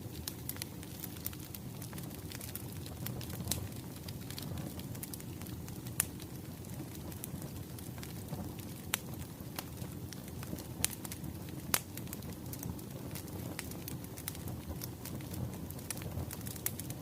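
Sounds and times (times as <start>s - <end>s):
firewood burning and crackling: 0.0s - 17.0s.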